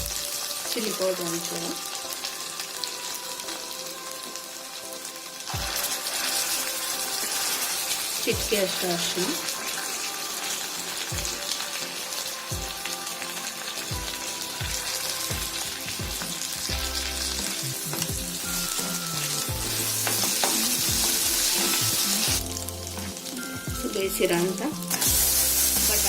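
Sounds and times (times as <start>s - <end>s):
spice paste sizzling in hot oil: 0.0s - 26.0s.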